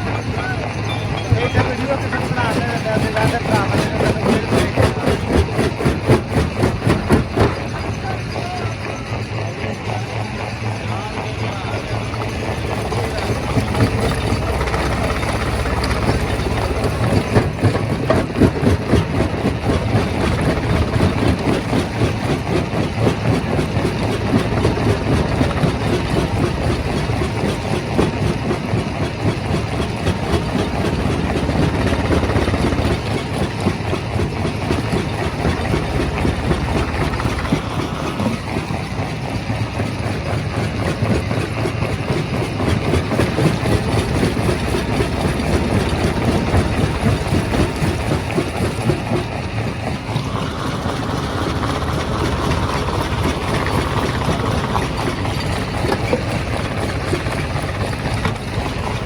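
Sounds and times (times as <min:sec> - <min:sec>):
rock crusher rattling: 0:00.0 - 0:59.0.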